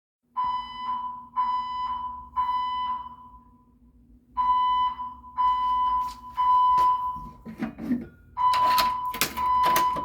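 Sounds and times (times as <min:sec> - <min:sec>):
fire alarm beeping: 0:00.3 - 0:07.4, 0:08.3 - 0:10.0.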